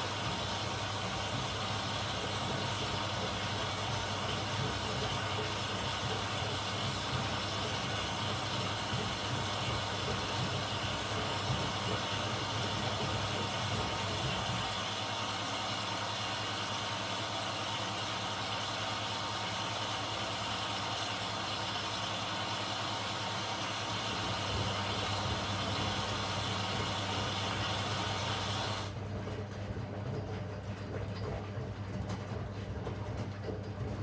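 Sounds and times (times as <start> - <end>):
washing machine hiss: 0.0 - 29.0
washing machine low hum: 0.0 - 34.0.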